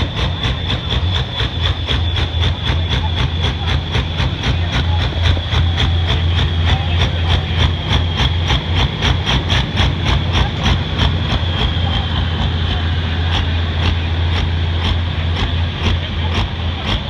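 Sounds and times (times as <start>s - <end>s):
diesel engine idling: 0.0s - 17.0s
regular engine ticking: 0.0s - 17.0s.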